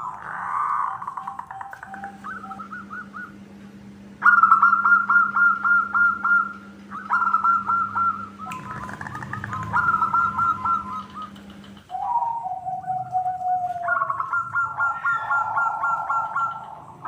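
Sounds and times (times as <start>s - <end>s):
doves cooing: 0.0s - 17.0s
faint low hum: 0.0s - 17.0s.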